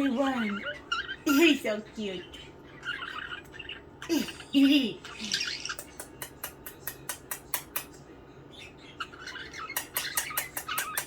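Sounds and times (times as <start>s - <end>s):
budgerigars chirping and warbling: 0.0s - 11.0s.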